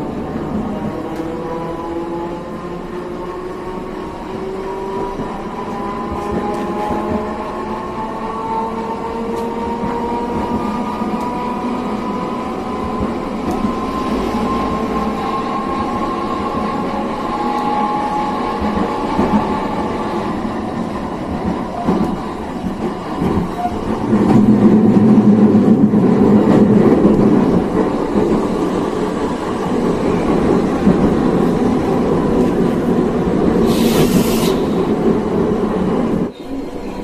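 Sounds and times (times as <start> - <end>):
tram drive whine rising: 0.0 - 33.6
tram running noise: 0.0 - 37.0.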